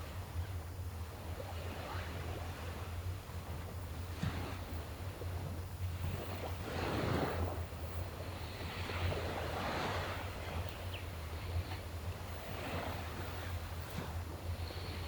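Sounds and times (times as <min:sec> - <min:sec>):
sea waves washing onto shore: 0:01.4 - 0:15.0.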